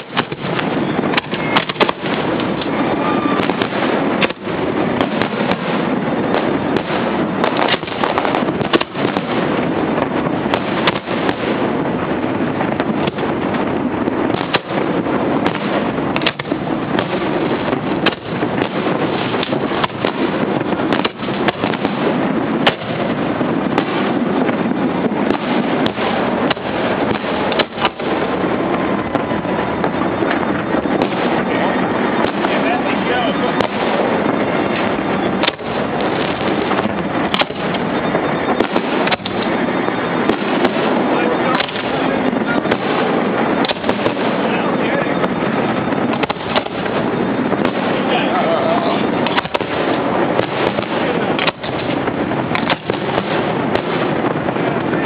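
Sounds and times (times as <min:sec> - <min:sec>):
constant rushing noise: 0:00.0 - 0:55.0
fireworks shells bursting: 0:00.0 - 0:55.0
sharp fireworks bangs: 0:00.0 - 0:55.0.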